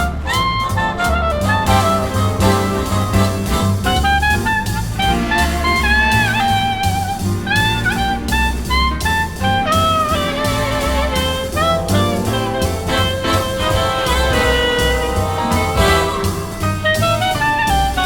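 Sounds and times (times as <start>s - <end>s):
drum kit: 0.0s - 18.0s
jazz horn melody: 0.0s - 18.0s
walking bass: 0.0s - 18.0s.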